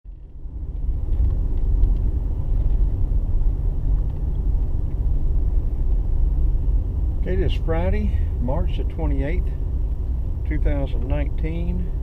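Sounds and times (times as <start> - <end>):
car road rumble inside cabin: 0.1 - 12.0.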